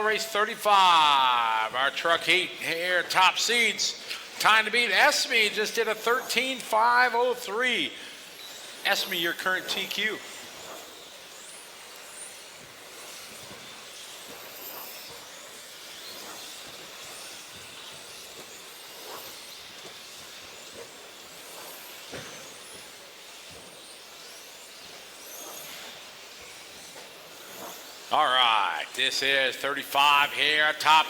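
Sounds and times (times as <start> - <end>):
electric motors whining: 0.0 - 31.0
outdoor hiss: 0.0 - 31.0.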